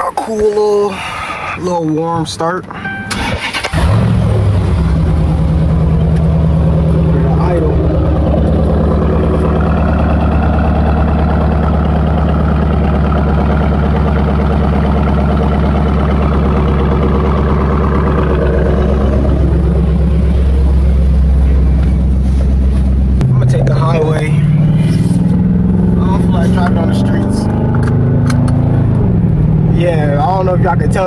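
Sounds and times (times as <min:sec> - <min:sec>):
car engine idling: 0:00.0 - 0:31.0
deep exhaust drone: 0:02.7 - 0:31.0.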